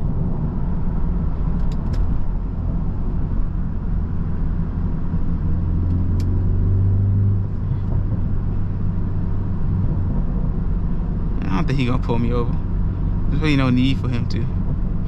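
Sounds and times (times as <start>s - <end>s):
car engine drone: 0.0s - 15.0s
road noise: 0.0s - 15.0s.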